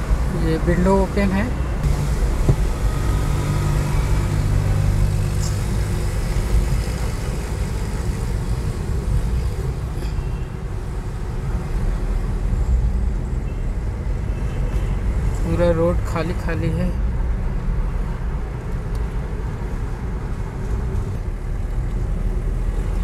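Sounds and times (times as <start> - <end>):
car engine hum: 0.0 - 23.0
road noise: 0.0 - 23.0
street noise through open window: 0.0 - 23.0.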